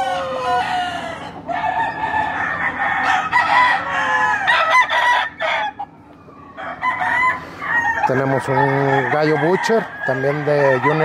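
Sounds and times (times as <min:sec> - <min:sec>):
roosters crowing: 0:00.0 - 0:11.0.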